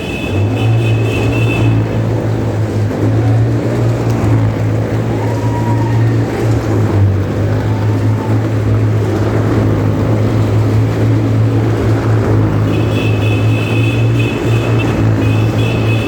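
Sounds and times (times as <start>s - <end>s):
motorcycle engines humming: 0.0s - 16.0s.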